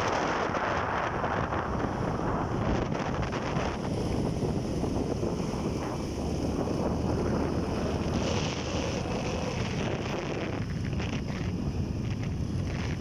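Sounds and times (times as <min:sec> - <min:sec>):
low vehicle rumble: 0:00.0 - 0:13.0
wind buffeting the microphone: 0:00.0 - 0:13.0.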